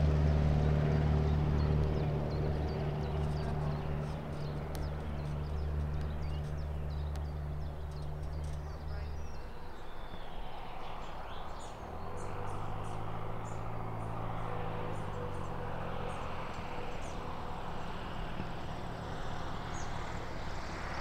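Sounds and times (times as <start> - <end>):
propeller plane drone: 0.0 - 21.0.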